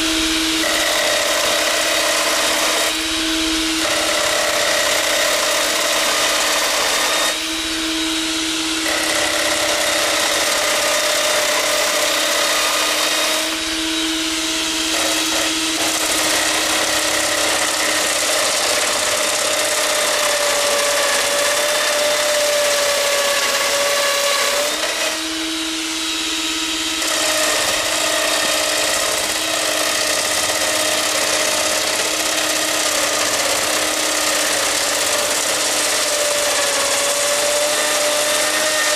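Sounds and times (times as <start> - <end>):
router bit chewing wood: 0.0 - 38.9
router motor whine: 0.0 - 38.9.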